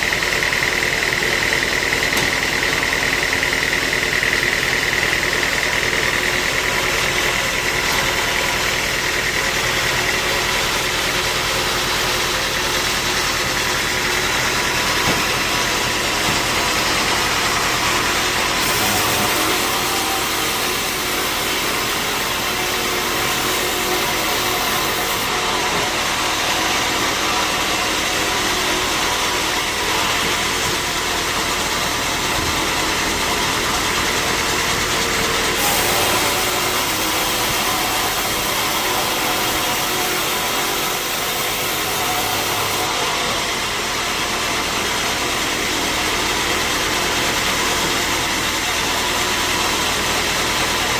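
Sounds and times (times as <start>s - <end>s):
sawmill machinery running: 0.0s - 50.9s.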